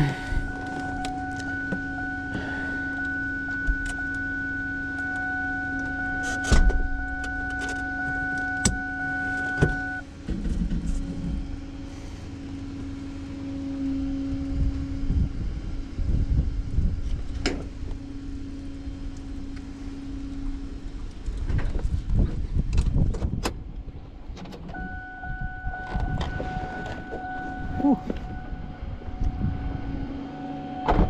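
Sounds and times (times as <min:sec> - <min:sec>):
higher whine: 0:00.0 - 0:31.0
tow truck machinery whining: 0:00.0 - 0:31.0.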